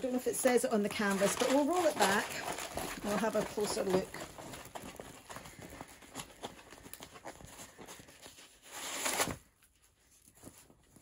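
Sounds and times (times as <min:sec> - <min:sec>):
stiff canvas crackling and rustling: 0:00.0 - 0:11.0.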